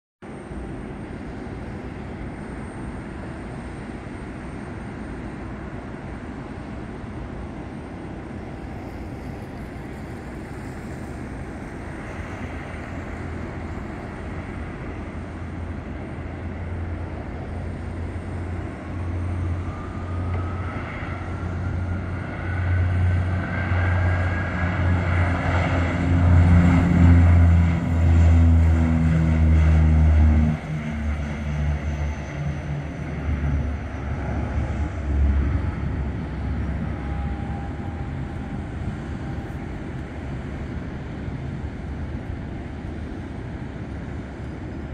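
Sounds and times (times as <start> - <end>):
turboprop propeller drone and whine: 0.2 - 44.9.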